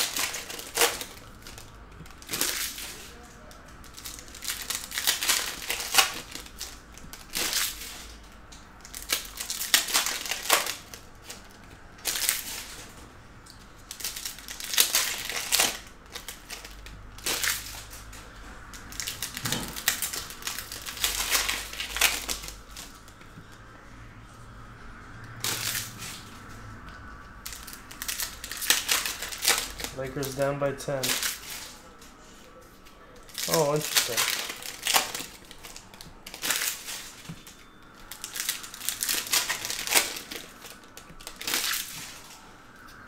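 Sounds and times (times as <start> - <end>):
foil wrappers crinkling and tearing: 0.0 - 23.4, 25.3 - 26.6, 27.4 - 43.0.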